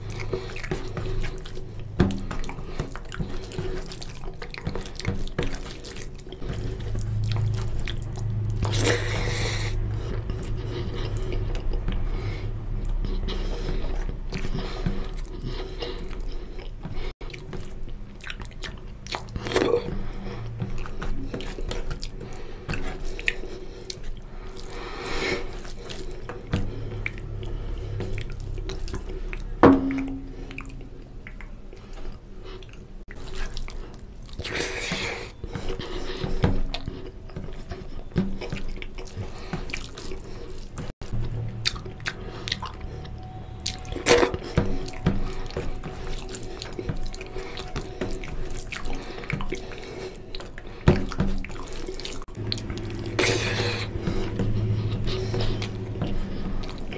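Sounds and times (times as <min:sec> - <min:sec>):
close chewing: 0:00.0 - 0:56.9.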